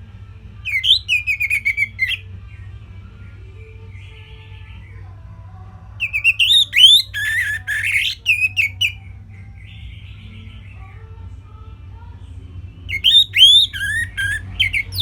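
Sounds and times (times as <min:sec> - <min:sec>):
thrush singing: 0:00.6 - 0:05.1, 0:05.8 - 0:11.9, 0:12.6 - 0:15.0.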